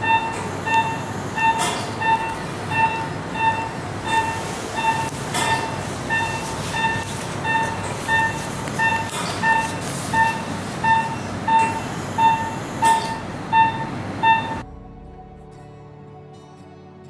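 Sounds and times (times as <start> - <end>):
patient monitor pulse beeps: 0.0 - 14.6
steady room hiss: 0.0 - 14.6.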